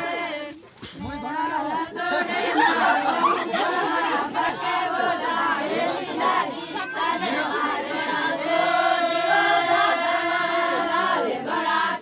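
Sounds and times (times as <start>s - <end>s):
group singing: 0.0s - 12.0s.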